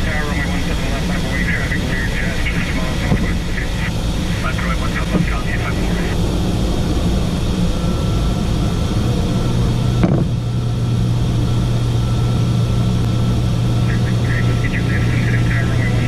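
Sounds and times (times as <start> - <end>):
jet engine hum: 0.0 - 16.0.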